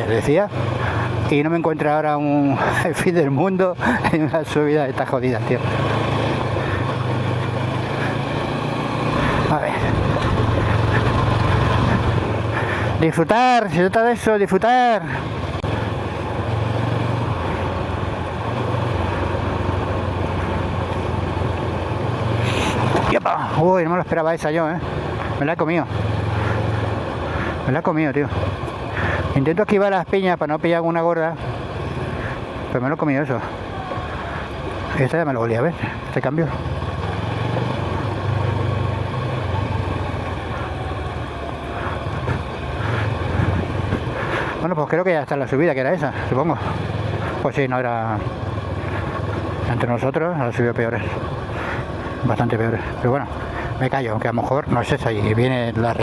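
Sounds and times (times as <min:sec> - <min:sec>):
gravel under tyres: 0:00.0 - 0:56.0
motorcycle engine running: 0:00.0 - 0:56.0.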